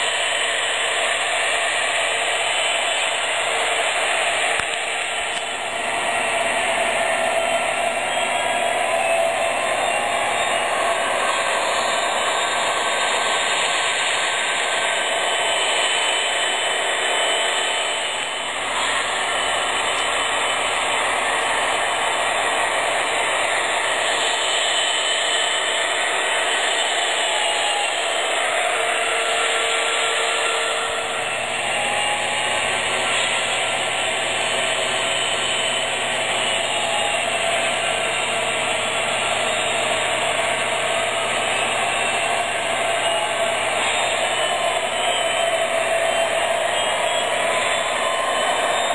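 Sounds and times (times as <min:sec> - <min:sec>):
model train motors hissing: 0:00.0 - 0:48.9
simulated diesel engine drone: 0:00.0 - 0:48.9
wheels on rails: 0:00.0 - 0:48.9.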